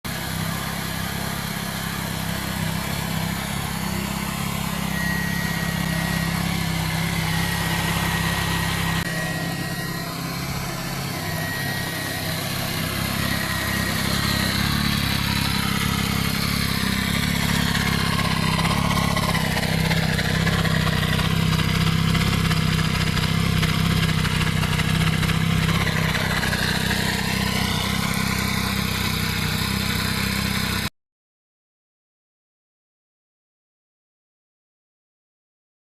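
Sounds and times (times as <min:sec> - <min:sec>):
motorcycle engine exhaust: 0:00.1 - 0:30.9.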